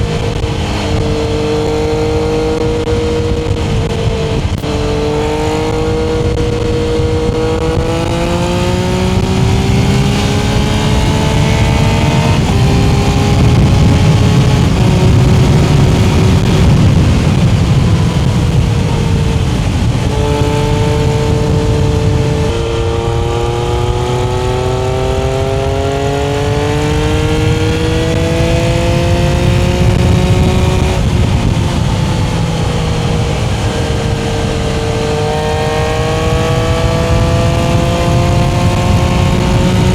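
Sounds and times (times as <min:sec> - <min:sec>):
engine revving through gears: 0:00.0 - 0:39.9.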